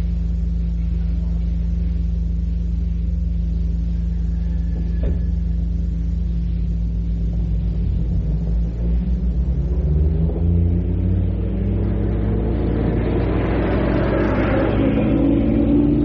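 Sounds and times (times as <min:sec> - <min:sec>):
steady low hum: 0:00.0 - 0:16.0
vehicle engine approaching: 0:00.0 - 0:16.0.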